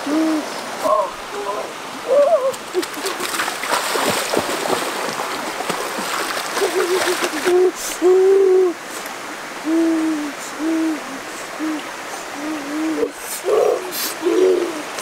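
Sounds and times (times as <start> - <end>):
stream hissing: 0.0 - 15.0.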